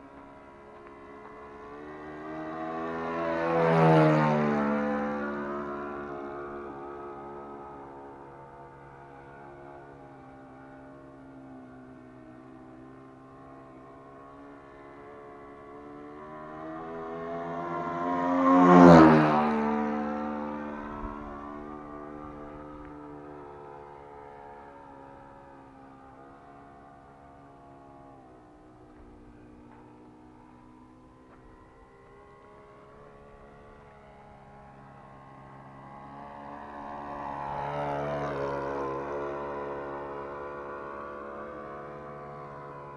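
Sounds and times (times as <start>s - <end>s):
model plane engine flying past: 0.0s - 42.9s.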